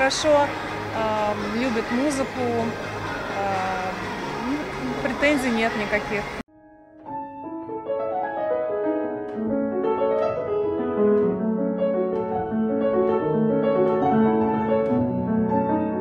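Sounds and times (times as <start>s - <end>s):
grand piano playing: 0.0s - 16.0s.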